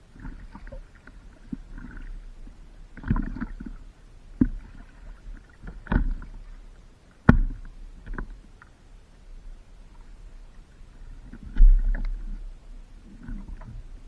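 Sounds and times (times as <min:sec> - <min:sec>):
low rumble of water: 0:00.0 - 0:14.0.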